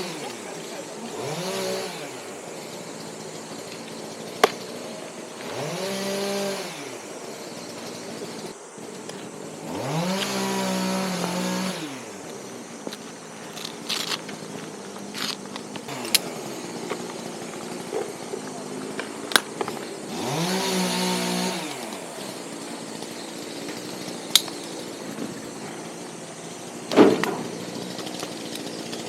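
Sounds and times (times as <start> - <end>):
chainsaw motor whining: 0.0 - 29.0.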